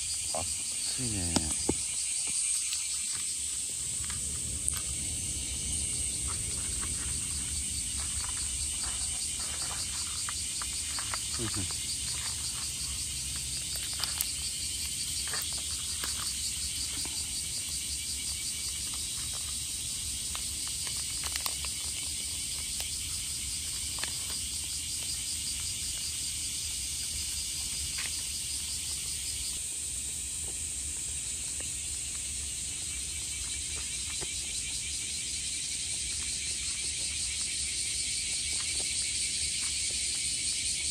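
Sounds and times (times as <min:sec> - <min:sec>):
insects chorus: 0:00.0 - 0:40.9.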